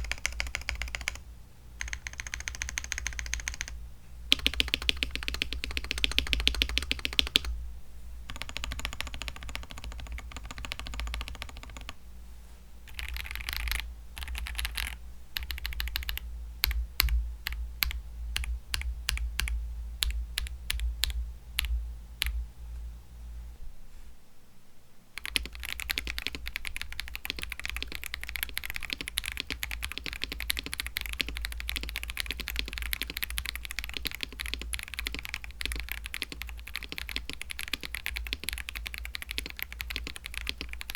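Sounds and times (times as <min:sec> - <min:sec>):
typing on mechanical keyboard: 0:00.0 - 0:01.2, 0:01.8 - 0:07.5, 0:08.3 - 0:12.0, 0:12.9 - 0:22.4, 0:25.2 - 0:40.9.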